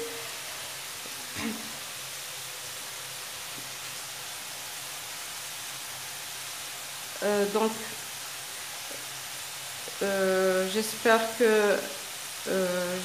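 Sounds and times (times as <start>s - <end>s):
food sizzling in frying oil: 0.0s - 13.0s.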